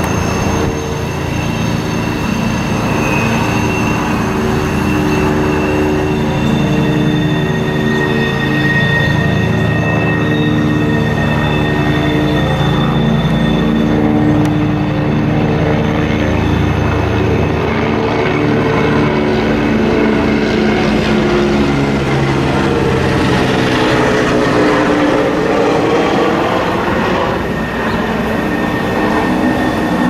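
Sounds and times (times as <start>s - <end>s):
freight train rumbling: 0.0s - 30.0s
high wheel squeal: 0.0s - 30.0s.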